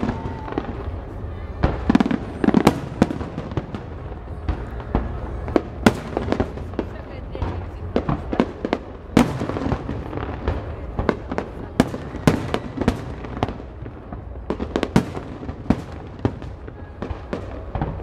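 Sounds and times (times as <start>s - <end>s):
fireworks bursts and bangs: 0.0s - 18.0s.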